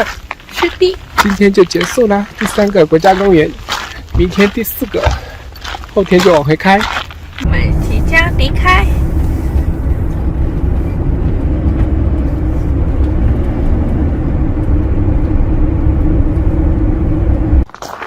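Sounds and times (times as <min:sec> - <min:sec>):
vehicle road and engine rumble: 0:00.0 - 0:17.8.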